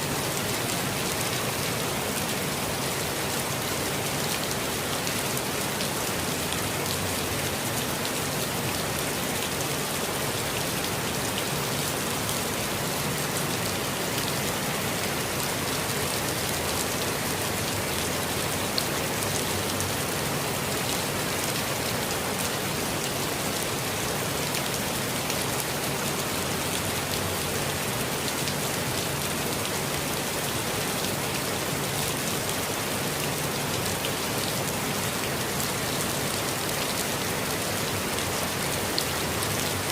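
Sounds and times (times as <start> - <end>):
rain pattering on leaves: 0.1 - 39.9.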